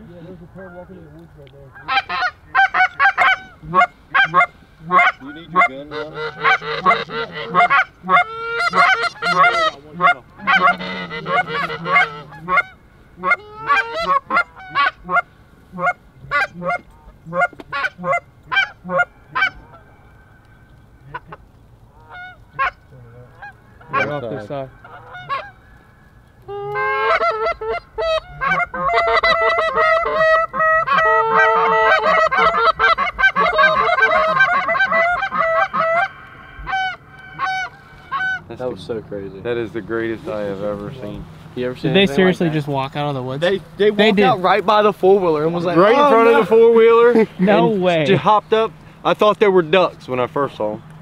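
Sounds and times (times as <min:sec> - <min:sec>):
geese honking: 0:00.0 - 0:51.0.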